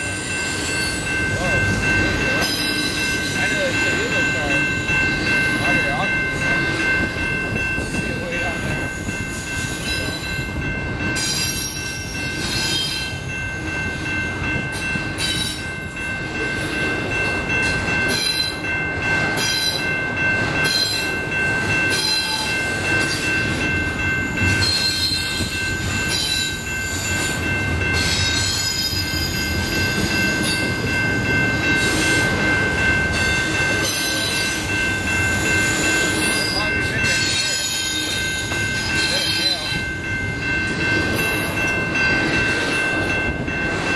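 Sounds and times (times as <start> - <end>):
train rumble: 0.0 - 43.9.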